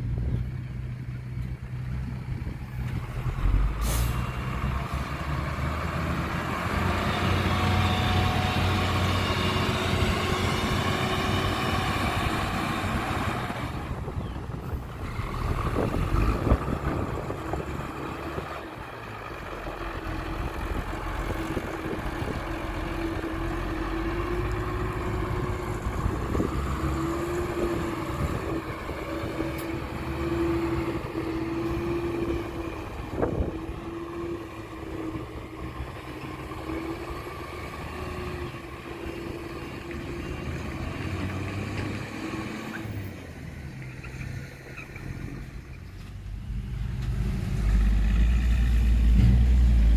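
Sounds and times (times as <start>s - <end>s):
diesel machinery engine rumble: 0.0s - 49.9s.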